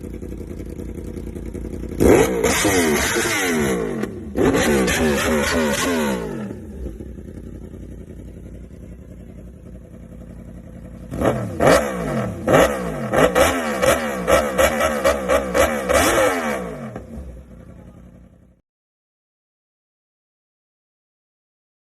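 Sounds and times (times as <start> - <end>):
motorcycle engine idling and revving: 0.0 - 18.6.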